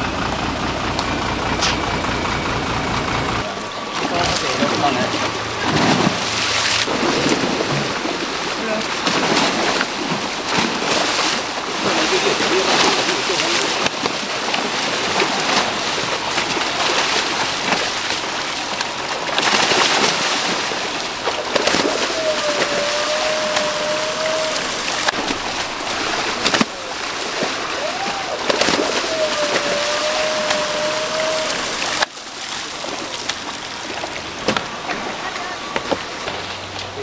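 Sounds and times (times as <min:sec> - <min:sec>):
fish splashing and churning water: 0:00.0 - 0:37.0.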